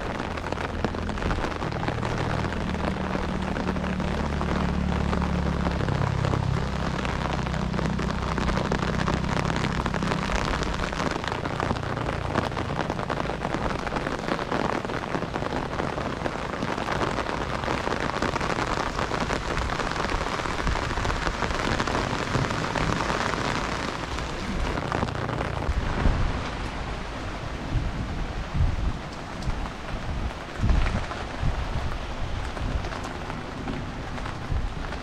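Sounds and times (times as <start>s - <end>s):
heavy rain pouring: 0.0s - 35.0s
low rumbles: 0.0s - 35.0s.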